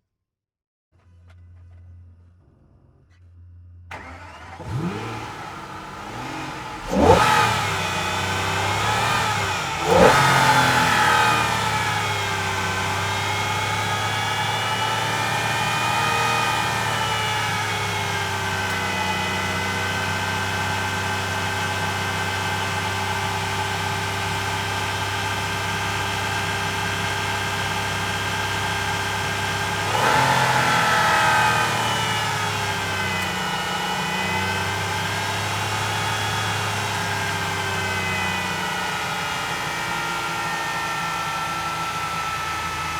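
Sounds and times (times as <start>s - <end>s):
car engine revving and idling: 1.2s - 42.9s.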